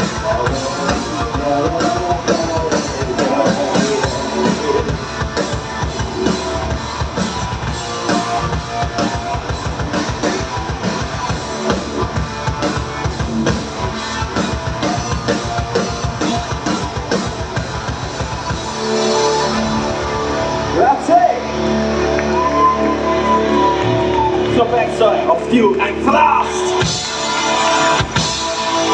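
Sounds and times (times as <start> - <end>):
rock band playing: 0.0 - 28.9.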